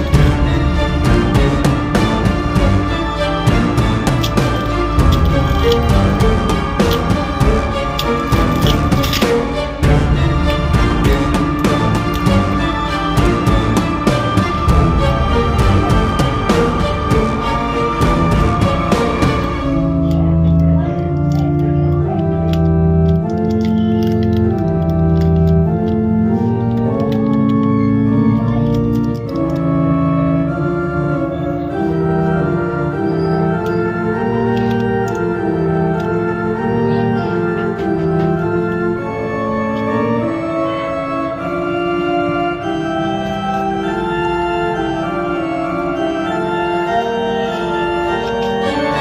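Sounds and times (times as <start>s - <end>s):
background music chords: 0.0s - 49.0s.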